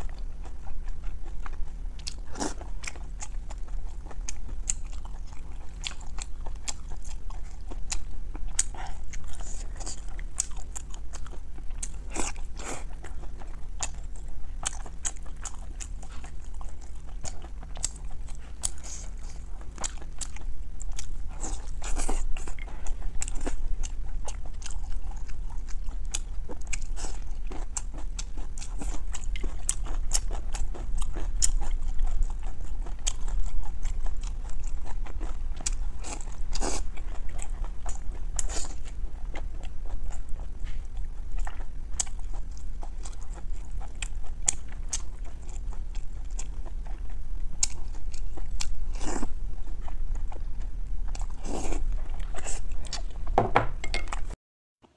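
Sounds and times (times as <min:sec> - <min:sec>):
faint low hum: 0:00.0 - 0:54.9
wet chewing and smacking: 0:00.0 - 0:54.9.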